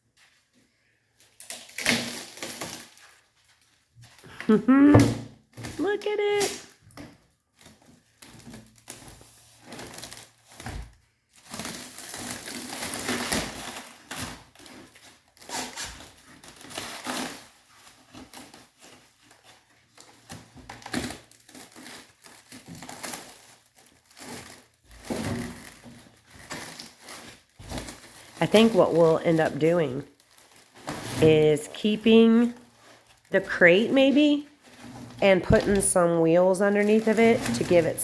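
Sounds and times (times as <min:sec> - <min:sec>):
packing material crinkling and tearing: 0:01.2 - 0:04.4, 0:05.6 - 0:38.0.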